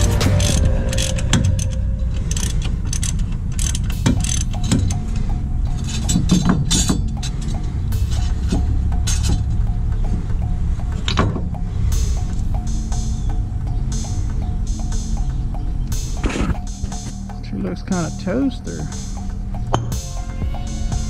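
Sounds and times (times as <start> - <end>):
ratchet wrench clicking: 0.0 - 17.3
metal clinking: 0.0 - 17.4
low rumble: 0.0 - 21.0.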